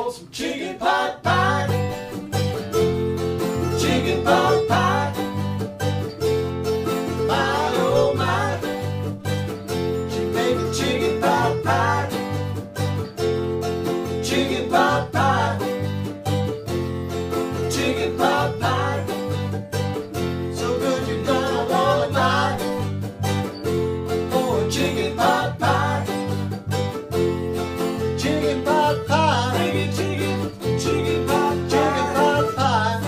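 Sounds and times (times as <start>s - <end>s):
country band playing: 1.2s - 33.0s.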